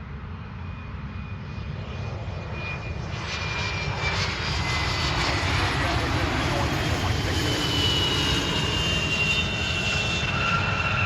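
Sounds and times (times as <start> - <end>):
jet engines approaching: 0.0 - 11.0.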